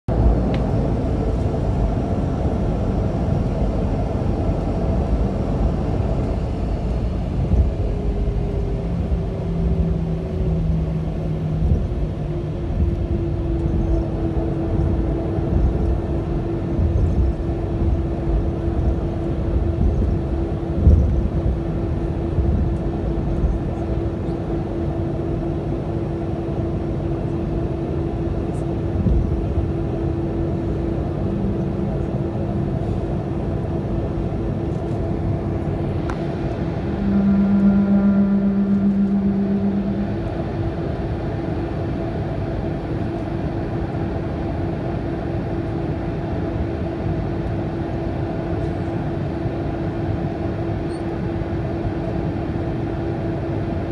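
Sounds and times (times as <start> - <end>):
jet engines rumbling: 0.1 - 53.9
steady hum: 0.1 - 53.9.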